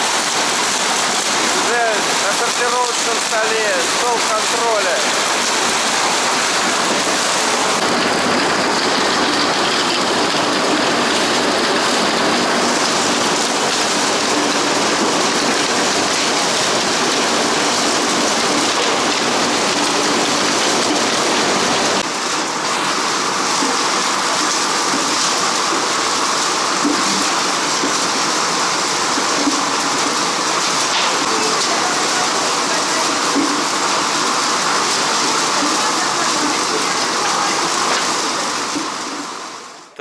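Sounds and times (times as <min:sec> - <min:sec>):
produce rattling on conveyor belts: 0:00.0 - 0:40.0.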